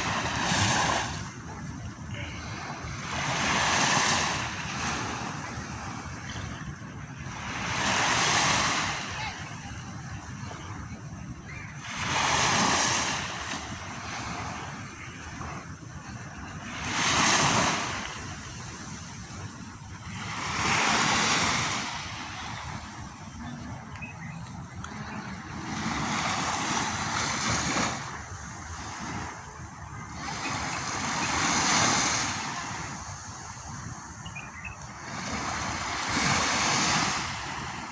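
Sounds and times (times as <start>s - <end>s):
waves breaking: 0.0s - 37.9s.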